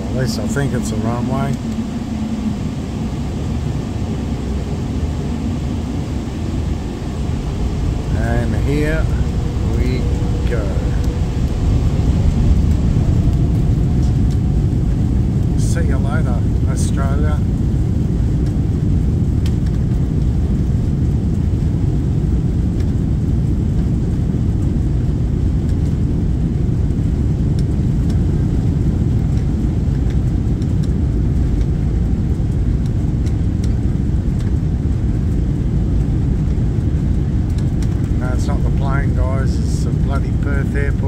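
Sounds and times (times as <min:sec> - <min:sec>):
jet engines at takeoff thrust: 0:00.0 - 0:41.0.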